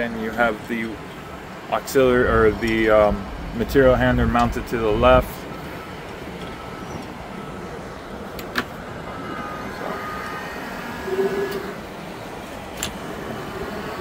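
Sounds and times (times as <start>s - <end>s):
thin whine: 0.0s - 14.0s
hydraulic boom hum: 1.0s - 14.0s.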